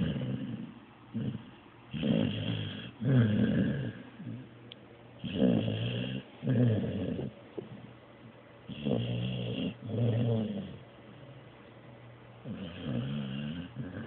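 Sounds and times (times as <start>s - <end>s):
dog snoring: 0.0s - 4.6s, 5.2s - 7.9s, 8.7s - 11.4s, 12.4s - 14.0s.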